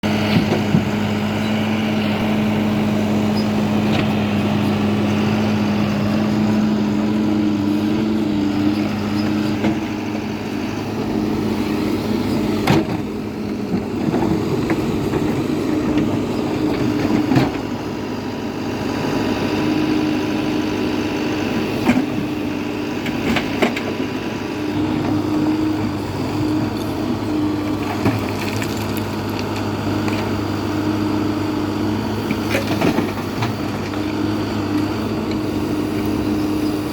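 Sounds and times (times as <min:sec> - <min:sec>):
backhoe diesel engine running: 0:00.0 - 0:36.9.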